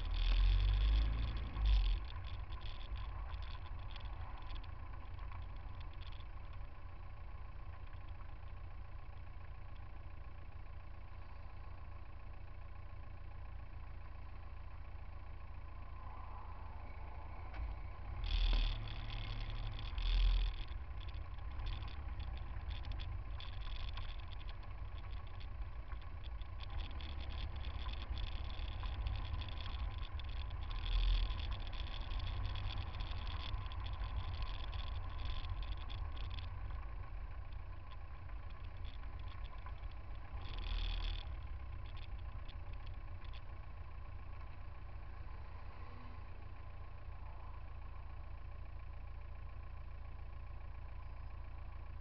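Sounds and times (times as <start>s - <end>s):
traffic rumble of engines and tyres: 0.0s - 52.0s.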